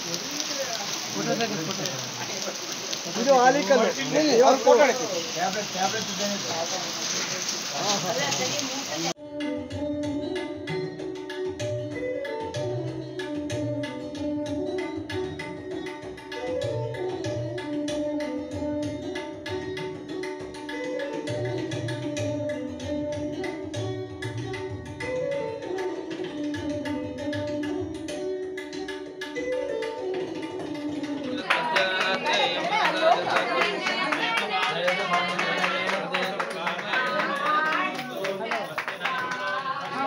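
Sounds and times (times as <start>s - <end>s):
tabla-like drum beat: 0.0s - 6.5s, 7.8s - 40.0s.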